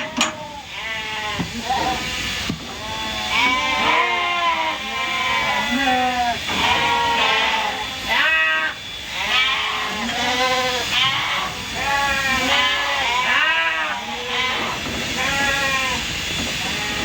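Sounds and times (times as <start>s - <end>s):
sheep bleating: 0.0s - 17.0s.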